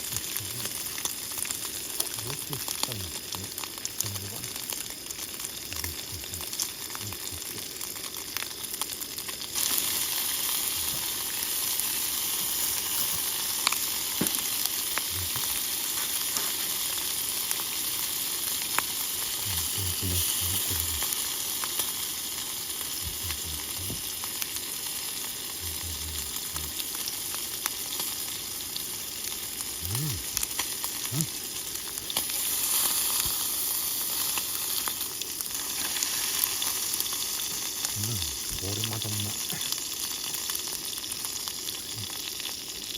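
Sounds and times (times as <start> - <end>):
meat sizzling: 0.0 - 42.9.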